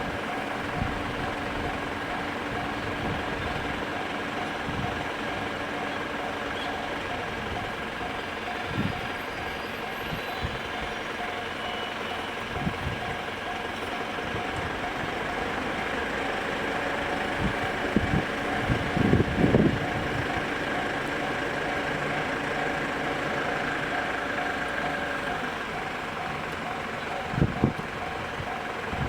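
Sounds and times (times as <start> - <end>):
level crossing warning bell: 0.0 - 29.0.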